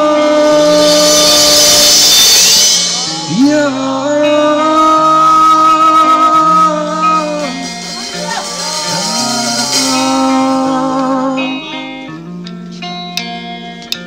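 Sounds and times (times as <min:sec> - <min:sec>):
man singing into a microphone: 0:00.0 - 0:02.2, 0:02.9 - 0:12.8
drums: 0:00.0 - 0:12.1
electric guitar: 0:00.0 - 0:14.0.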